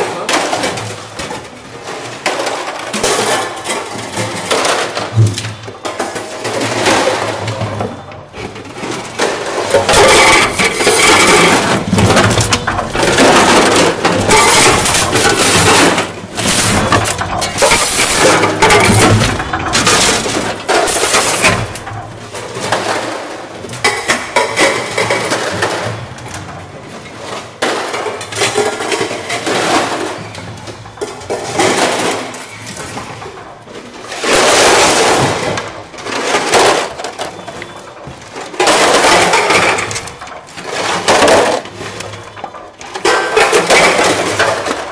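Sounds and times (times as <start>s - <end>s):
can crusher crunching metal cans: 0.0s - 44.9s.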